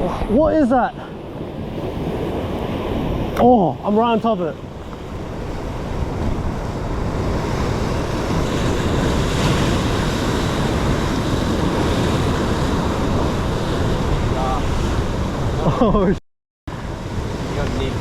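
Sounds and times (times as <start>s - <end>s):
surf washing against rocks: 0.0s - 15.8s, 16.7s - 18.0s
wind buffeting microphone: 0.0s - 15.8s, 16.7s - 18.0s.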